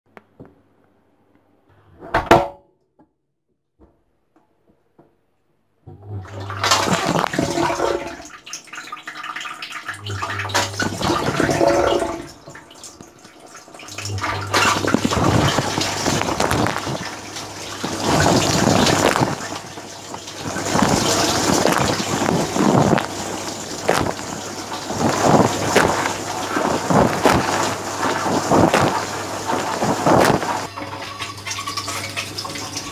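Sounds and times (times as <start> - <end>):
dishwasher pump humming: 5.9 - 32.9
water spraying and splashing: 6.4 - 32.9.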